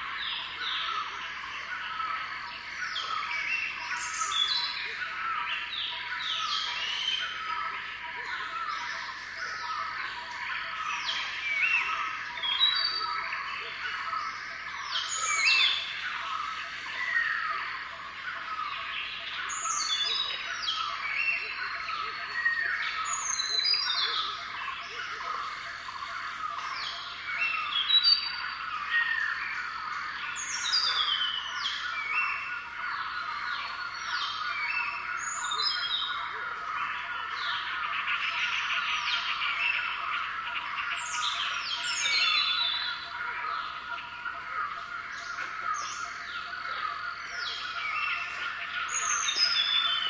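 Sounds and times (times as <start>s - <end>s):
songbirds chirping and twittering: 0.0s - 50.0s.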